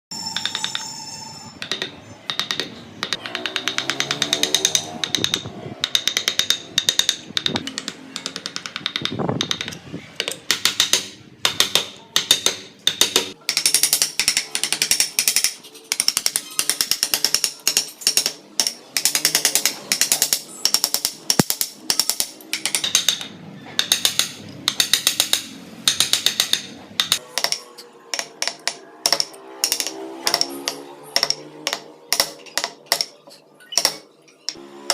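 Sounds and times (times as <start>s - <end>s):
mallet tapping wood chisel: 0.3s - 0.9s, 1.6s - 34.9s.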